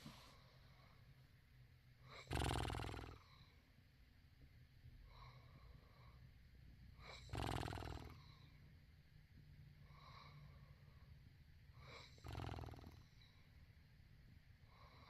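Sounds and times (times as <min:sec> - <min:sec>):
quiet breaths: 0:00.0 - 0:15.0.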